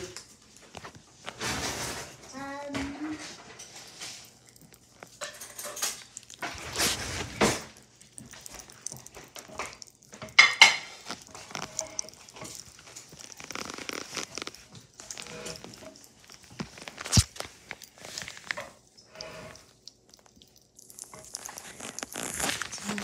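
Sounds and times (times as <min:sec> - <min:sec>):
popping candy crackling in water: 0:00.0 - 0:23.0.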